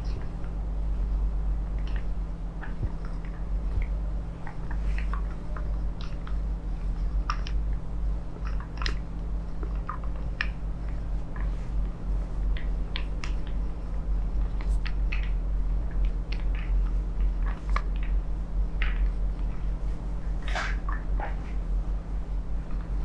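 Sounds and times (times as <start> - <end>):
soft clicks and crackles: 0.0 - 23.0
steady low hum: 0.0 - 23.0.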